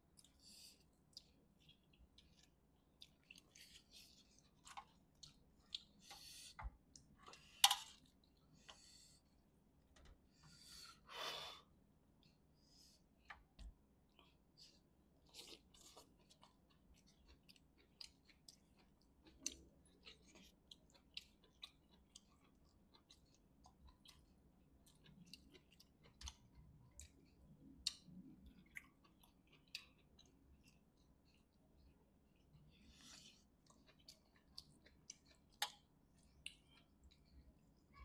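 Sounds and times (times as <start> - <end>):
chewing: 0.1 - 8.9, 14.1 - 38.0.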